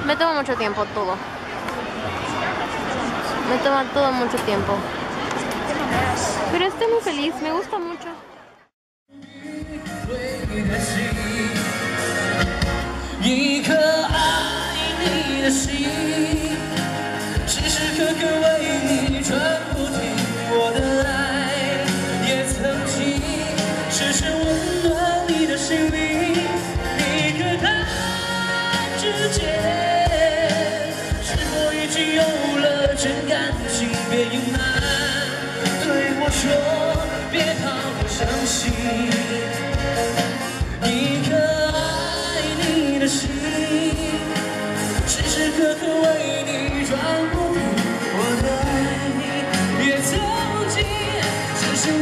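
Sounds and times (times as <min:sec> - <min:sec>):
amplified music with steady beat: 0:09.1 - 0:52.0
man singing into a microphone: 0:09.1 - 0:52.0.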